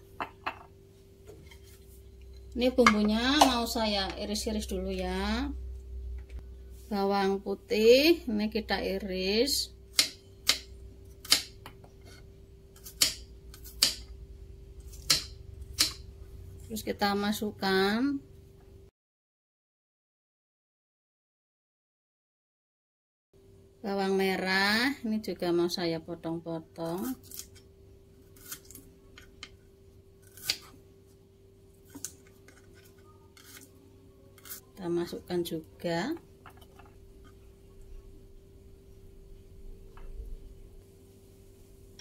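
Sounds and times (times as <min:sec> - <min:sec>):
faint steady hum: 0:00.0 - 0:18.9, 0:23.4 - 0:42.0.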